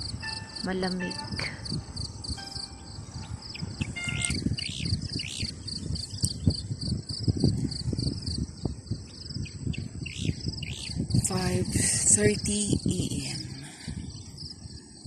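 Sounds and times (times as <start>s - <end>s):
low buffeting noise: 0.0s - 14.6s
crickets trilling: 0.0s - 15.0s.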